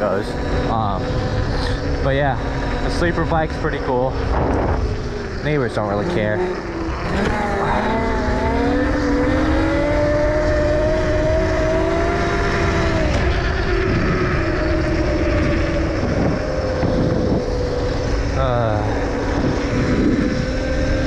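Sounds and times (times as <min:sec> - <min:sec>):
electric motorbike motor whining: 0:00.0 - 0:21.0
low rumble: 0:00.0 - 0:21.0.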